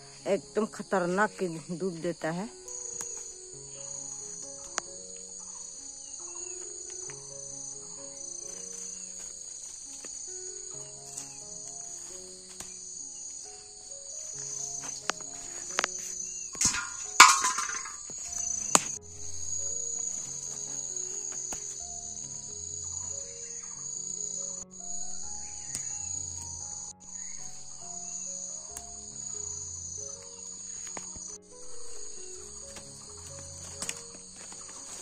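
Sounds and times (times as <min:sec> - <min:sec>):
insects buzzing: 0:00.0 - 0:35.0
soft background music: 0:00.0 - 0:35.0
plants rustling: 0:00.9 - 0:24.1, 0:29.2 - 0:35.0.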